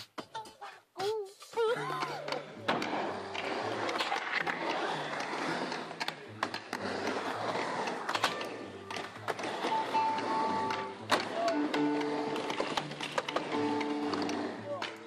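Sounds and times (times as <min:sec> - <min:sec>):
skateboard wheels rolling on concrete: 0:00.0 - 0:15.0
skateboard clacks: 0:01.9 - 0:15.0.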